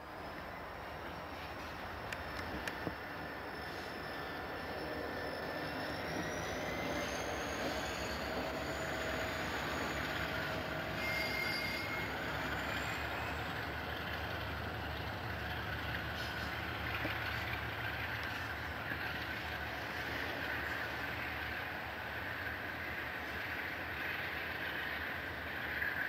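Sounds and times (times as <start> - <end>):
train wheels on rail: 0.0 - 26.0
faint high wheel squeal: 2.8 - 26.0.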